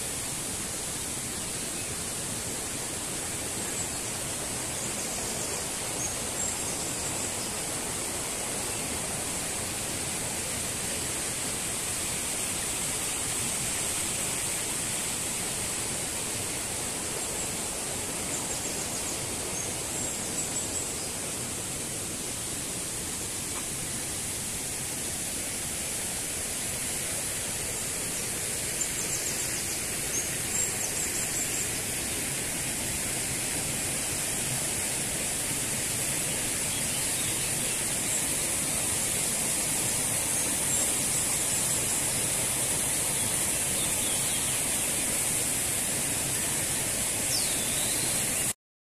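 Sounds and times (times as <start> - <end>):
stream rushing over stones: 0.0 - 48.6.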